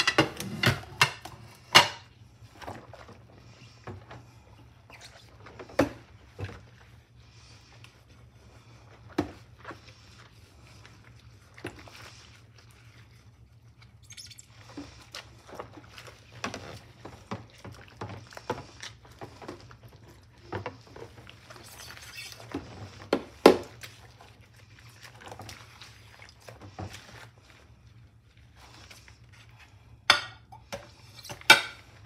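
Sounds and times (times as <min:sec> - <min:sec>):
scrubbing plate in sink: 0:00.0 - 0:27.8.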